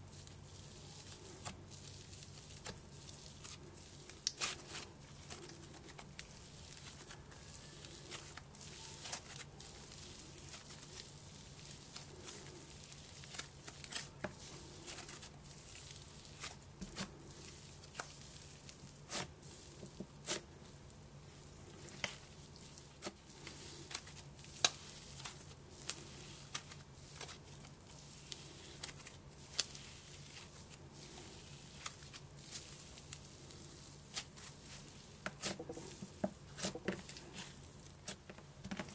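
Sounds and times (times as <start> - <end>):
slime squishing and crackling: 0.0 - 38.9.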